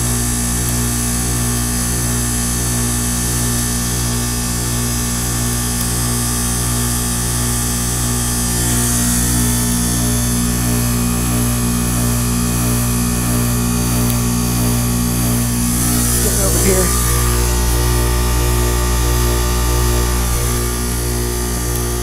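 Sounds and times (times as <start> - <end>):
heat pump compressor humming: 0.0 - 22.0.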